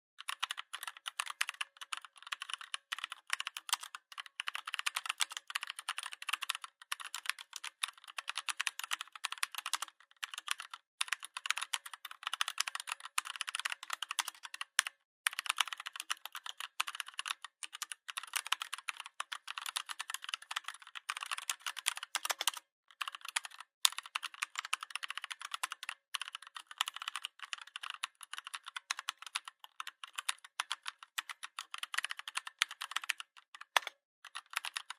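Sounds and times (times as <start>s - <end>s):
mechanical keyboard typing: 0.2s - 34.9s.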